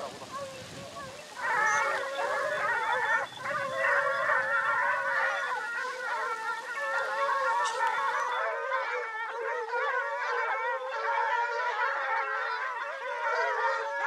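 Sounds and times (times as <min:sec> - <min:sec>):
hounds baying and howling: 0:00.0 - 0:14.0.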